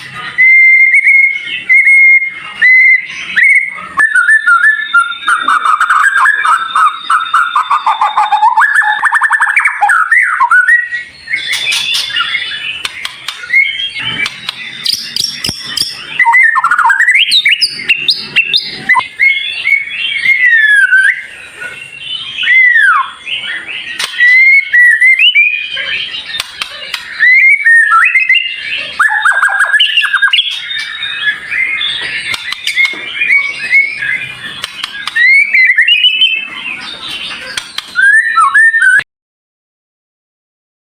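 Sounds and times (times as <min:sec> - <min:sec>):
bird song with whistles and chatters: 0:00.0 - 0:39.0.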